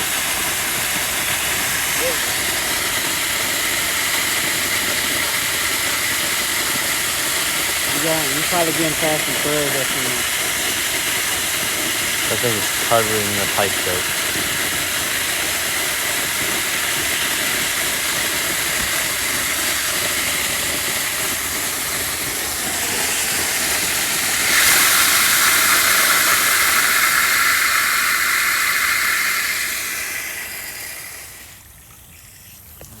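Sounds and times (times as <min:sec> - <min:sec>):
pressurised water rushing: 0:00.0 - 0:33.0.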